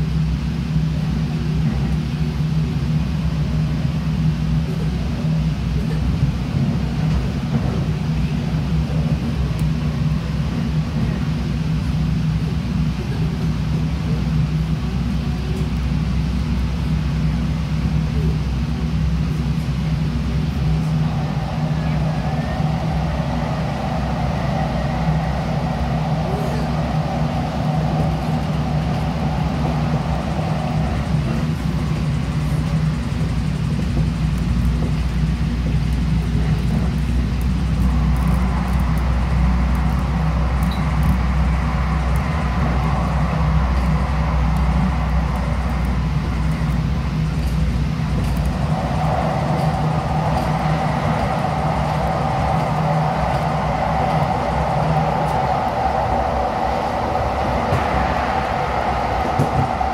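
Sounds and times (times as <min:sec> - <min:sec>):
wheel-on-rail rumble: 0:00.0 - 0:59.9.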